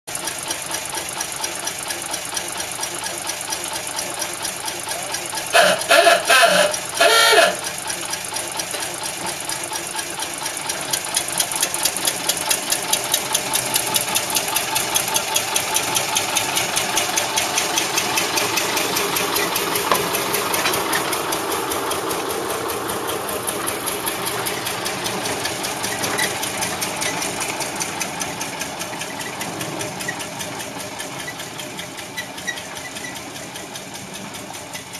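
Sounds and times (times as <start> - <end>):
diesel locomotive engine knocking: 0.1 - 34.9.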